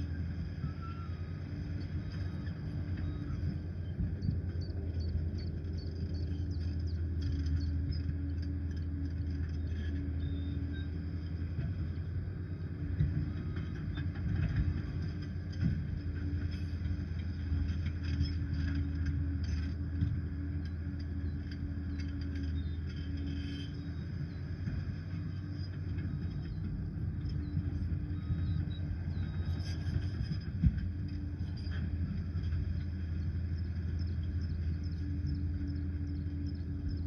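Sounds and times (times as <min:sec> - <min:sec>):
diesel engine droning: 0:00.0 - 0:37.0
light clanks and rattles: 0:00.0 - 0:37.0.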